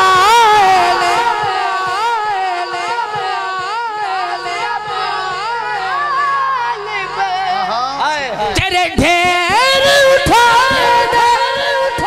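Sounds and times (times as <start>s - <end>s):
man singing ornamented long notes: 0.0s - 12.0s.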